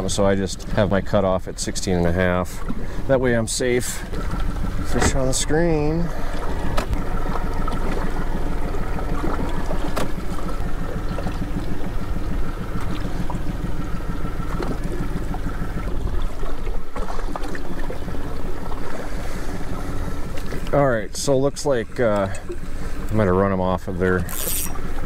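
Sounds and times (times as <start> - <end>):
boat motor running: 0.0 - 25.0
water lapping against hull: 0.0 - 25.0.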